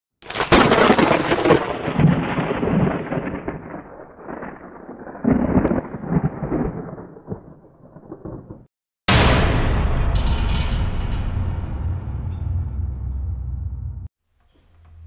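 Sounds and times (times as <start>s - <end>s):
thunder crack and rolling rumble: 0.3s - 12.4s.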